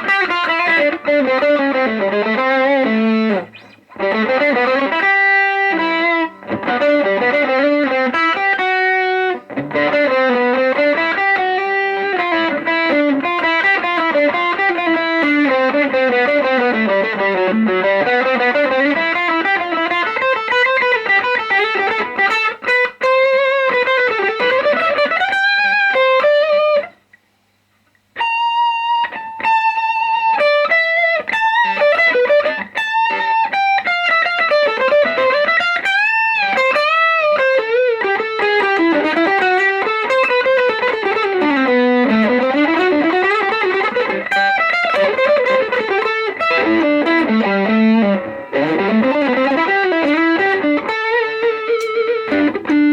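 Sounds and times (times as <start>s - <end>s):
electric guitar lead melody: 0.0s - 27.2s, 28.2s - 52.9s.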